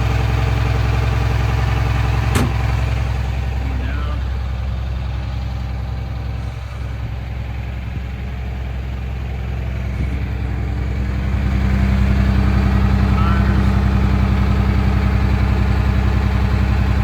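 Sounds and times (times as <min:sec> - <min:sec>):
bus diesel engine idling: 0:00.0 - 0:17.0.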